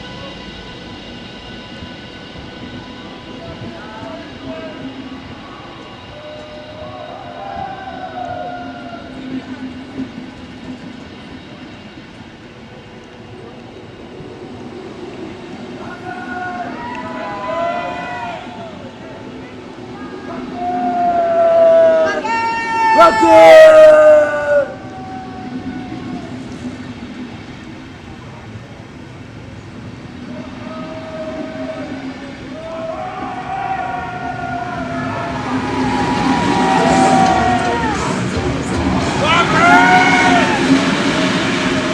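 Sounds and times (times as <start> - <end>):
train running on track: 0.0 - 41.9.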